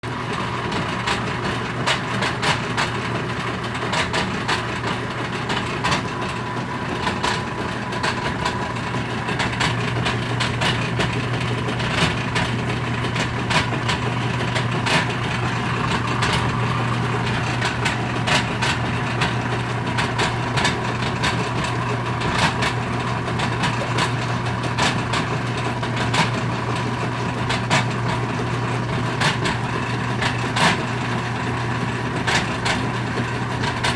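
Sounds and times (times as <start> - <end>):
washing machine motor hum: 0.0 - 33.9
washing machine clacks and pops: 1.0 - 33.9.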